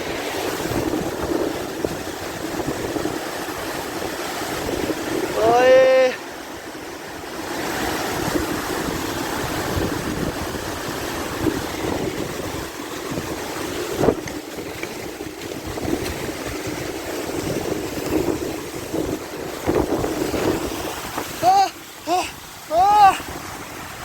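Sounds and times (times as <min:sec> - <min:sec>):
waterfall rushing: 0:00.0 - 0:24.0
wind on microphone: 0:00.0 - 0:24.0.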